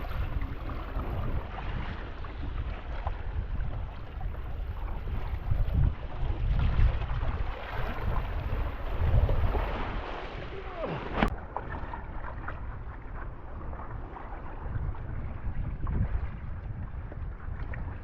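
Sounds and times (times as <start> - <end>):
rush of water and air: 0.0 - 18.0
wind buffeting microphone: 0.0 - 18.0.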